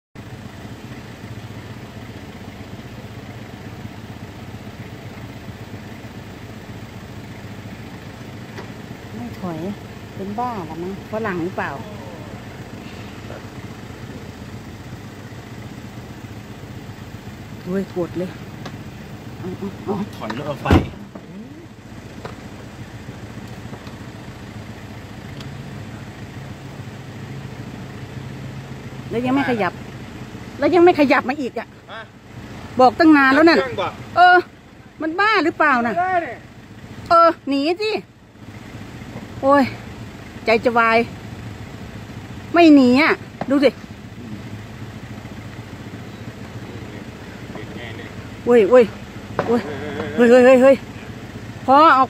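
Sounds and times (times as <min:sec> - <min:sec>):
car engine idling: 0:00.2 - 0:52.0.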